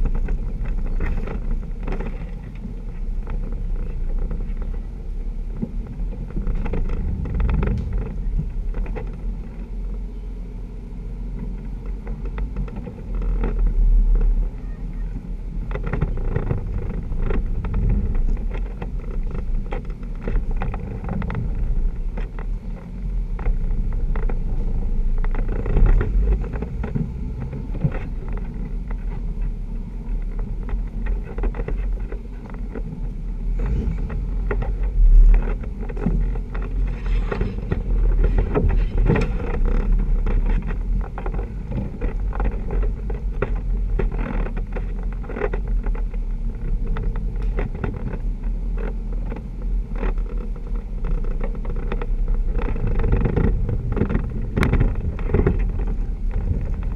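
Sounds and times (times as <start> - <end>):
engine running at low speed: 0.0 - 56.9.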